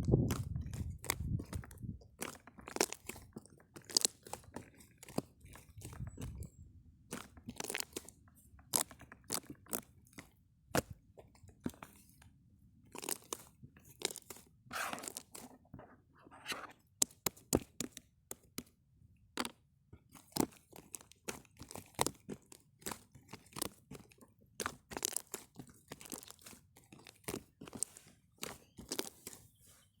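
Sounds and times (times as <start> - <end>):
close-up crunching and crackling: 0.0 - 30.0.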